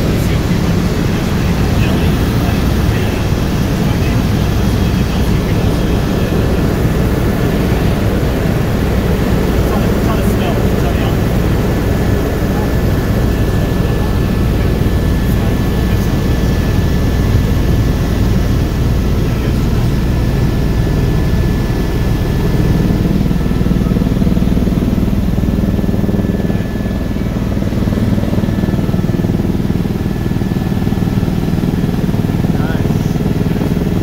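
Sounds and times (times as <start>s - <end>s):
helicopter rotor and engine drone: 0.0s - 34.0s.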